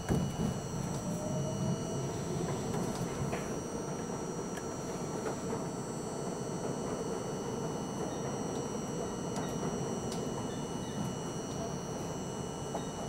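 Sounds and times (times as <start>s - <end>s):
train wheels rumbling on rails: 0.0s - 12.1s, 12.7s - 13.0s.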